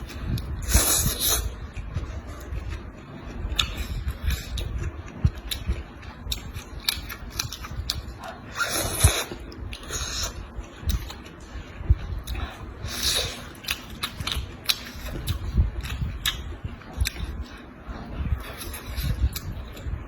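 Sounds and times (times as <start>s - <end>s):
wet chewing: 0.0s - 20.0s.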